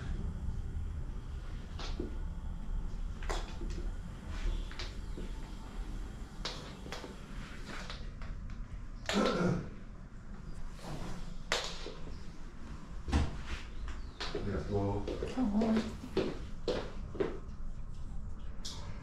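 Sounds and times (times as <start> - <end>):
footsteps in a room: 0.2 - 19.0.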